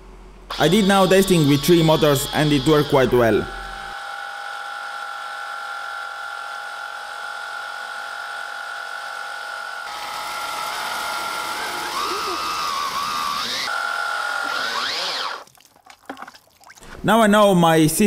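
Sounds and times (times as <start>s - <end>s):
high-pitched pump motor whine: 0.0s - 15.4s.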